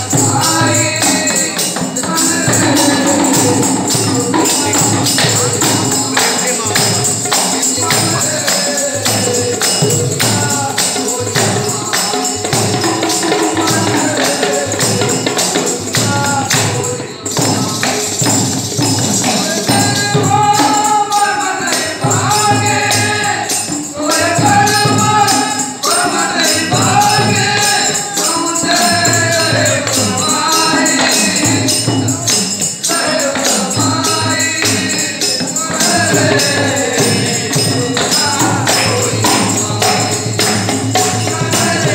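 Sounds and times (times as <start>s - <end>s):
jingling hand percussion: 0.0s - 41.9s
person singing devotional song: 0.0s - 41.9s.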